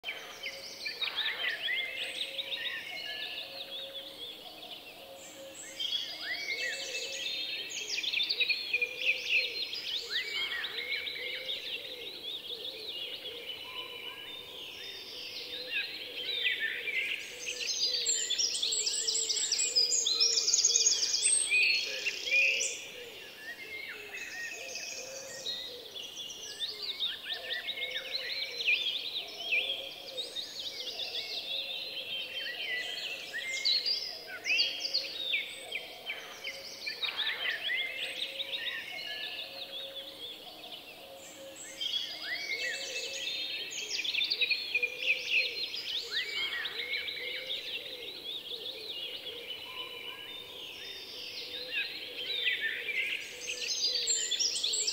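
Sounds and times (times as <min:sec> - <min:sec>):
birds chirping in chorus: 0:00.0 - 0:54.9.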